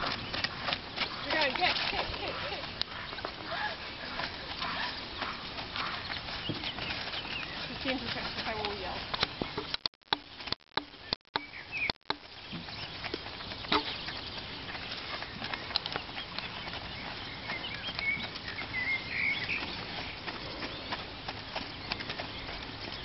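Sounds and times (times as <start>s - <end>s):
outdoor background noise: 0.0s - 23.0s
bird chirps: 2.2s - 23.0s.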